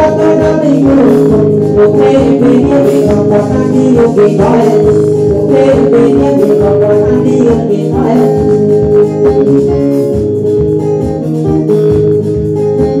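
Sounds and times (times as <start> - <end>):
electric guitar playing: 0.0 - 13.0
organ-like chords: 0.0 - 13.0
steady bass beat: 0.0 - 13.0.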